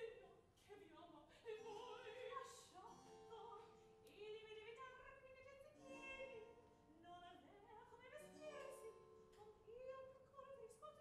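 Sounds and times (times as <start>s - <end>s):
opera singing: 0.0s - 11.0s.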